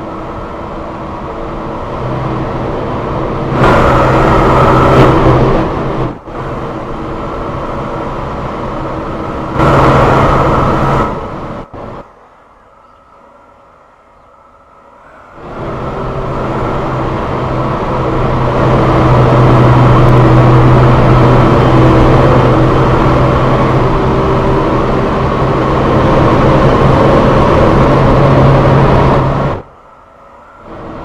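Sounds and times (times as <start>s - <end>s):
light rail train motor hum: 0.0s - 31.0s
wheel and rail noise: 0.0s - 31.0s.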